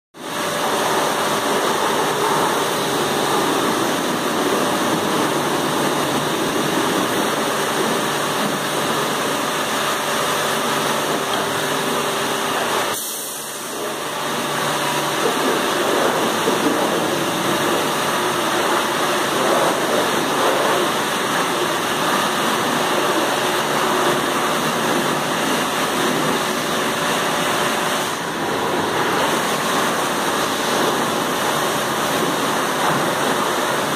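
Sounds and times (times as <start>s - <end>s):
water spraying: 0.2s - 33.9s
rotating car wash brushes: 0.4s - 13.1s, 15.2s - 33.9s.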